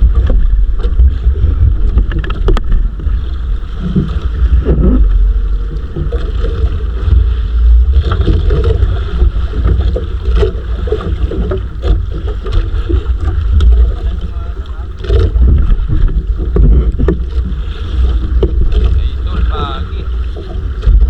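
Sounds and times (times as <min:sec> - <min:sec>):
water against boat hull: 0:00.0 - 0:21.0
wind rumble on microphone: 0:00.0 - 0:21.0.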